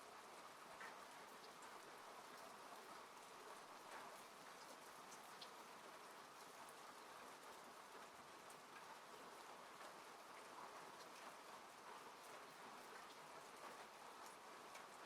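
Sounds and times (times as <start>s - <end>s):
rain pattering on a car: 0.0s - 15.0s.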